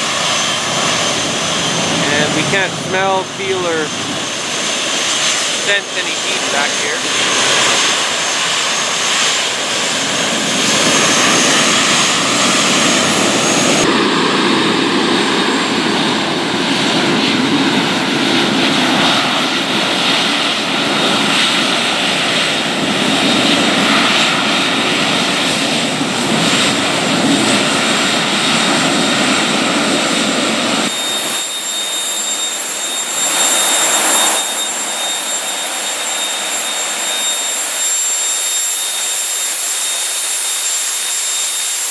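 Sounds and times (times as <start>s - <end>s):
gas turbine jet roar with whine: 0.0s - 41.9s.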